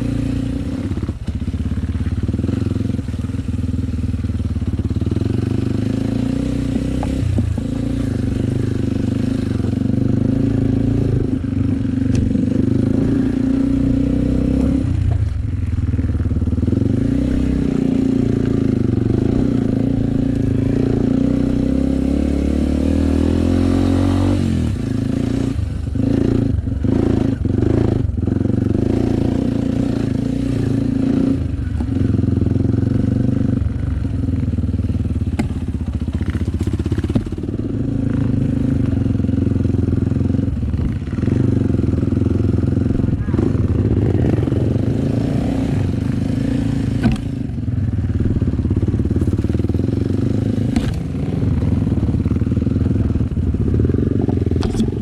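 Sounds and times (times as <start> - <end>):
motorcycle engine under load: 0.0 - 55.0
motorcycle throttle blips: 0.0 - 55.0.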